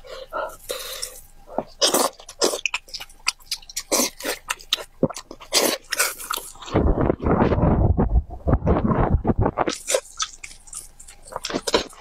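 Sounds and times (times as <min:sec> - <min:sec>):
crunchy chewing and biting: 0:00.0 - 0:07.7, 0:08.7 - 0:12.0.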